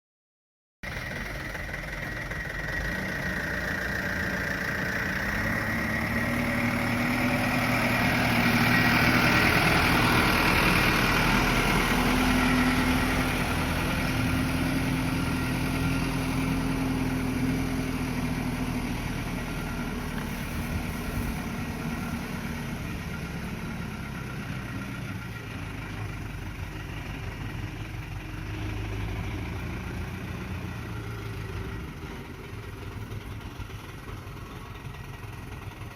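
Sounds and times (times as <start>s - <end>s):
truck diesel engine: 0.8s - 35.9s.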